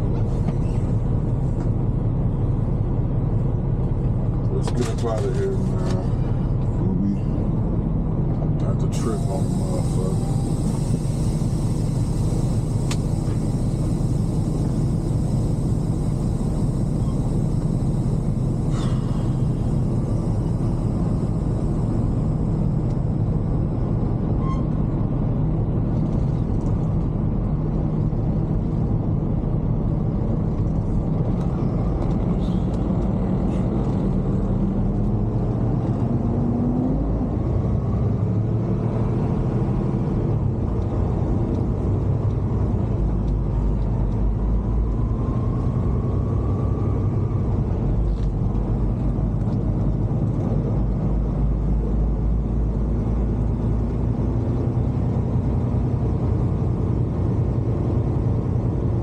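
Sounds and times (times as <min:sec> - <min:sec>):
truck diesel engine rumbling: 0:00.0 - 0:59.0.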